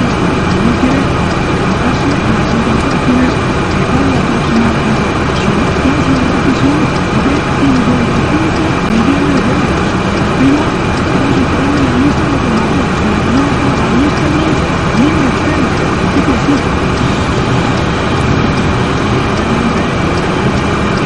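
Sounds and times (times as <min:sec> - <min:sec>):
loud traffic-like noise: 0:00.0 - 0:21.0.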